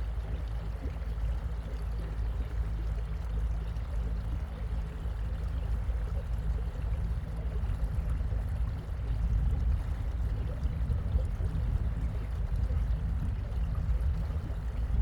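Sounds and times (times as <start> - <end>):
boat motor hum: 0.0 - 15.0
water splashing along hull: 0.0 - 15.0.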